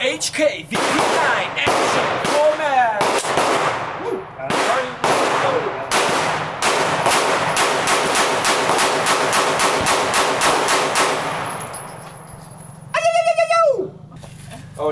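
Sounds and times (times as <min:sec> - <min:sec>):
pistol shots: 0:00.7 - 0:12.8.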